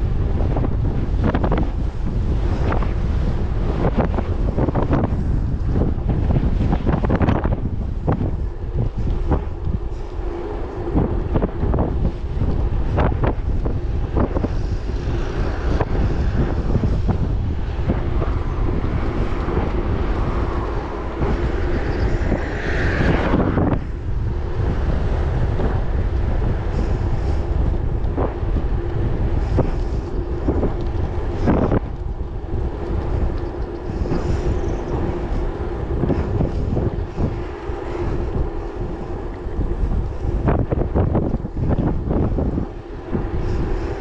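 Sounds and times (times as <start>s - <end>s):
faint steady hum: 0.0s - 44.0s
road noise: 0.0s - 44.0s
wind buffeting microphone: 0.0s - 44.0s.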